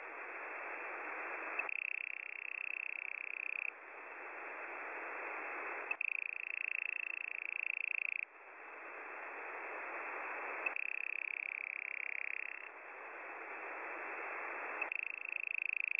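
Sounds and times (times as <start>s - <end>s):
radio band hiss: 0.0s - 15.9s
pulsing buzzy data signal: 0.8s - 3.7s, 5.2s - 15.9s.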